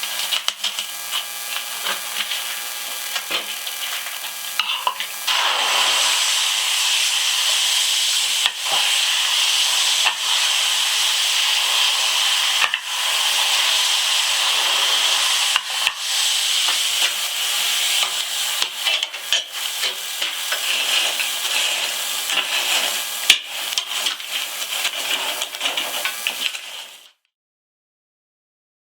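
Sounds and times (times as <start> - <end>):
knife grinding on wheel: 0.0 - 27.0.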